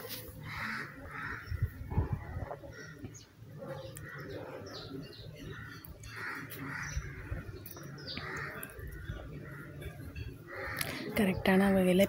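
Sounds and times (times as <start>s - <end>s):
harsh caw-like bird calls: 0.4s - 3.3s, 3.9s - 11.2s.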